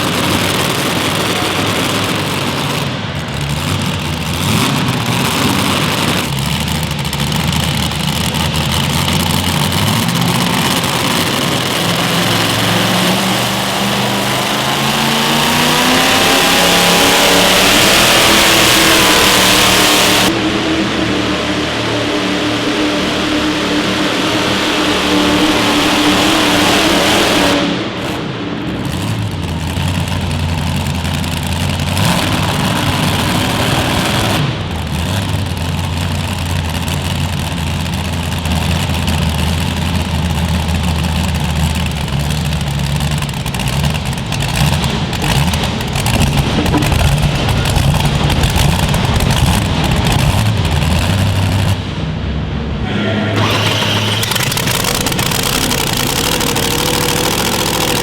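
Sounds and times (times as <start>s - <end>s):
big engine running loud: 0.0s - 58.0s.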